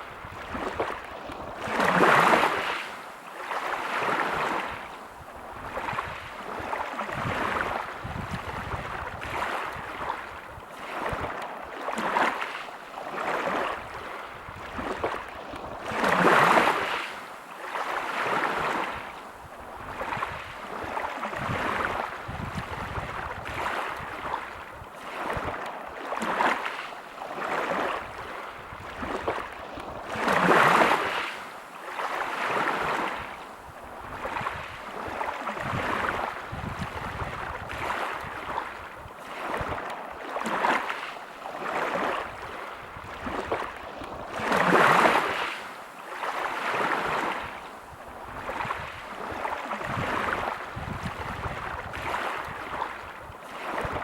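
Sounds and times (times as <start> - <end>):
waves breaking on pebble beach: 0.0 - 19.1, 19.8 - 33.4, 34.1 - 54.0.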